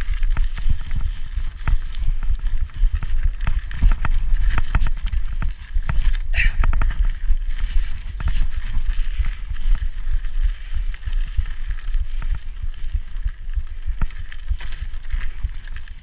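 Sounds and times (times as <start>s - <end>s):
bike frame rattling and knocking: 0.0s - 16.0s
bike tyres rolling on dirt: 0.0s - 16.0s
wind buffeting microphone: 0.0s - 16.0s.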